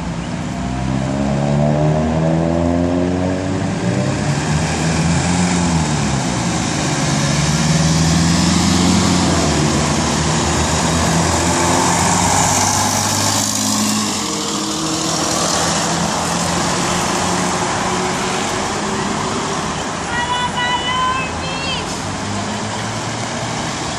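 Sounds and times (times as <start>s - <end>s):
road traffic passing: 0.0s - 23.9s
tyre and road noise: 0.0s - 23.9s.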